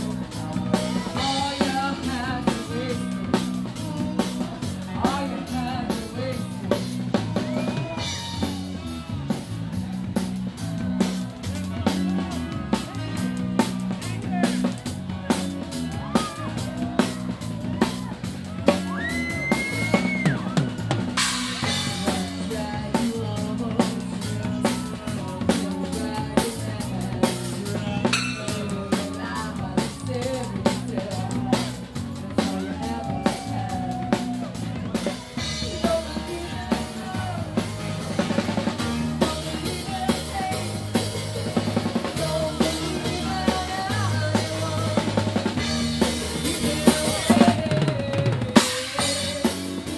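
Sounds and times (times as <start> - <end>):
drum kit beat: 0.0 - 49.9
heavy bass line: 0.0 - 49.9.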